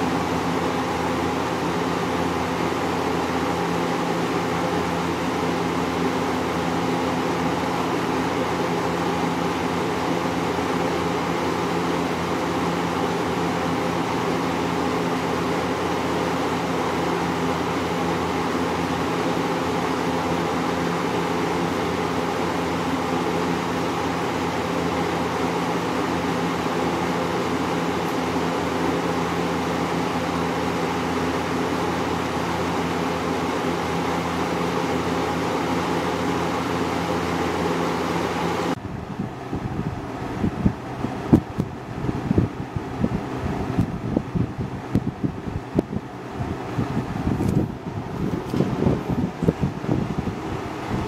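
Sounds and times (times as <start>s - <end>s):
box fan running: 0.0s - 51.0s.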